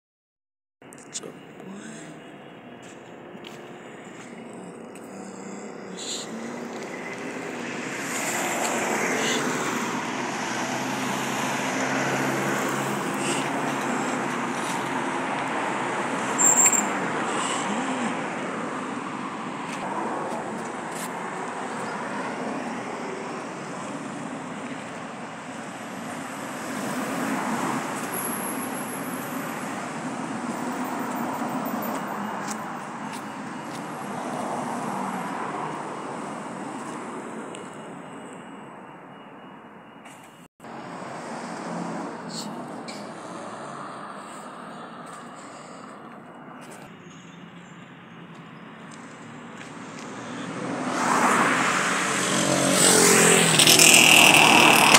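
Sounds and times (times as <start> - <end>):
road traffic: 0.8 - 54.9.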